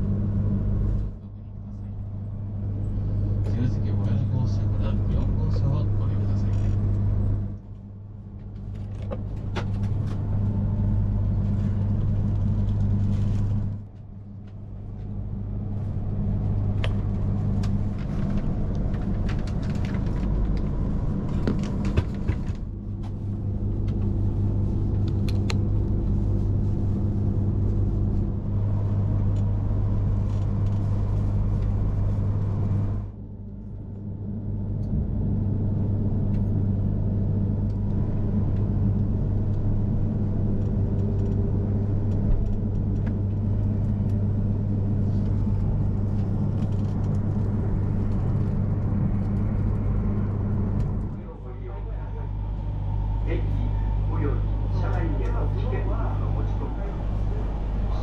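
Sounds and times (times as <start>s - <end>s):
train electrical hum: 0.0s - 58.0s.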